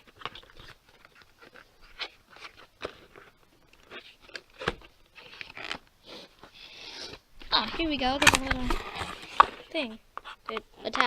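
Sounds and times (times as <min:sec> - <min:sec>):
hands handling packaging: 0:00.0 - 0:11.0.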